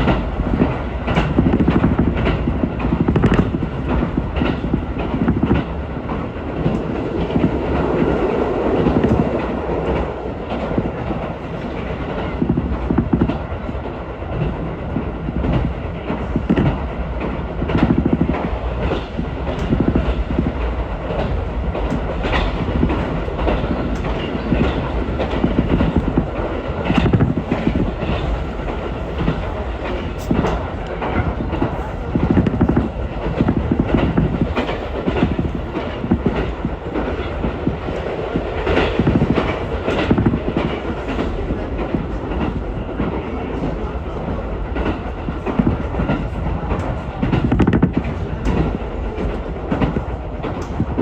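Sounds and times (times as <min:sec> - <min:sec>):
train rumble: 0:00.0 - 0:51.0
wheels clicking over track: 0:00.0 - 0:51.0.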